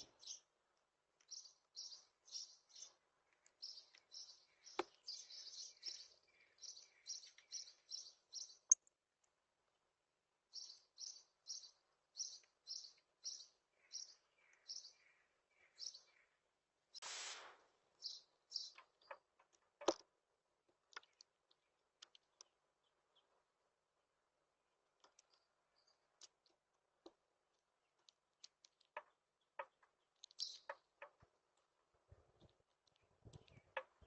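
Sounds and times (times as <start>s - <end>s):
small birds chirping: 0.0s - 17.0s, 17.9s - 34.0s.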